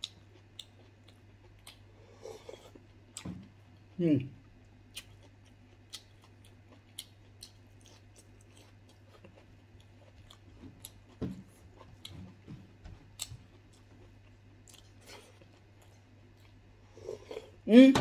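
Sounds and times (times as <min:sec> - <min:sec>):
person chewing food: 0:00.0 - 0:17.6
low steady hum: 0:00.0 - 0:18.0.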